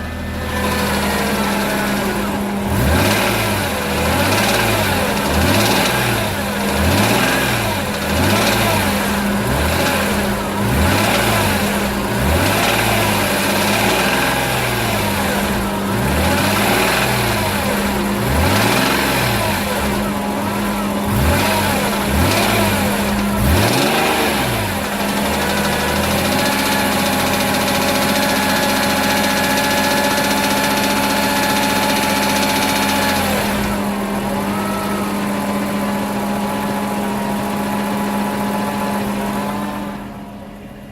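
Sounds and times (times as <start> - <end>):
car engine revving: 0.0 - 40.6.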